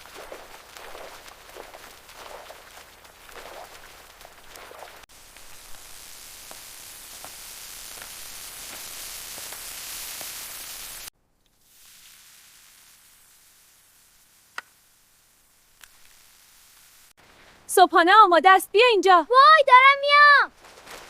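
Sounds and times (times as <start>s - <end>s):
faint crackles: 0.0s - 17.7s, 19.4s - 21.0s
steady hiss: 0.0s - 17.7s.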